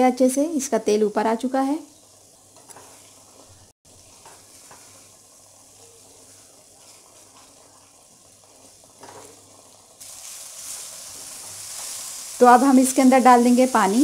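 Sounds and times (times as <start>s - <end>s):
masala sizzling in oil: 0.0s - 14.0s.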